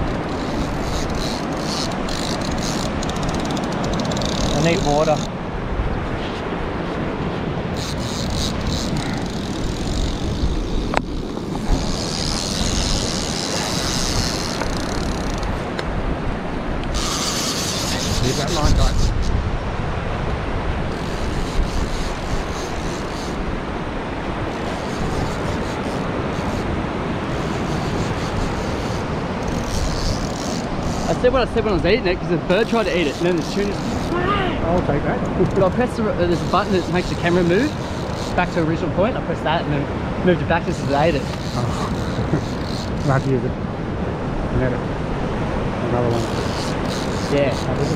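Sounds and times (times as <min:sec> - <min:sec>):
wind rumbling on microphone: 0:00.0 - 0:47.9.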